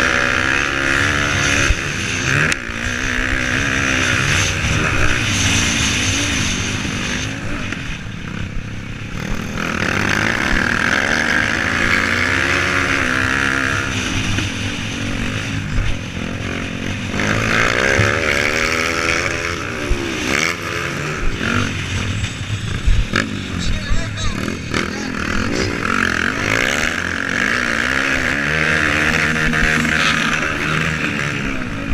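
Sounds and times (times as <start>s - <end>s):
motocross bikes racing past: 0.0s - 31.9s.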